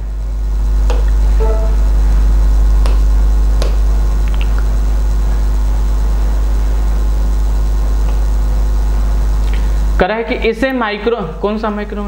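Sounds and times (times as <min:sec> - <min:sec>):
faint high buzz: 0:00.0 - 0:10.4
low electrical hum: 0:00.0 - 0:12.0.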